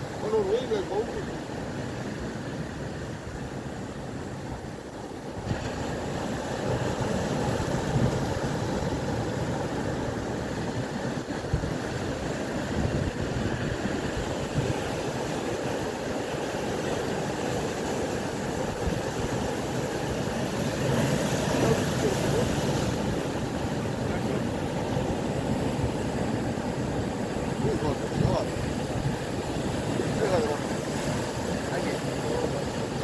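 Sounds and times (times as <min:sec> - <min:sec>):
sea waves rushing: 0:00.0 - 0:33.0
wind along the shore: 0:00.0 - 0:33.0.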